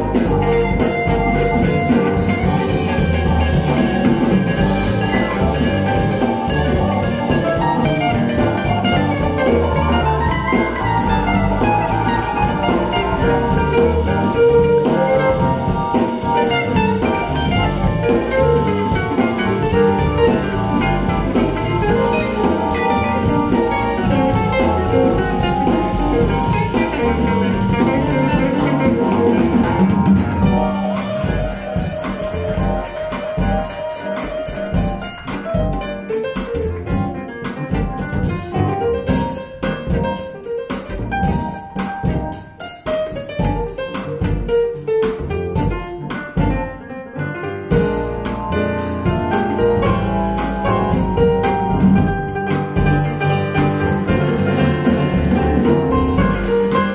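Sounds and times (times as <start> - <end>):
band music through speakers: 0.0 - 56.9.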